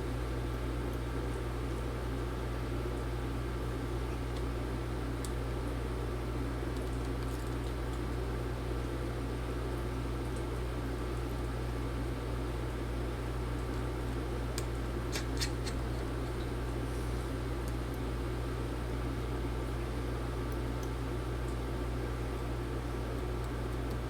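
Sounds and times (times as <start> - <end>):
workshop room hum: 0.0 - 24.0.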